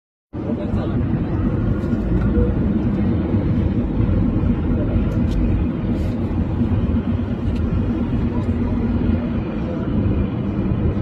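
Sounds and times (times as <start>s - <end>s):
aircraft engines rumbling: 0.3s - 11.0s.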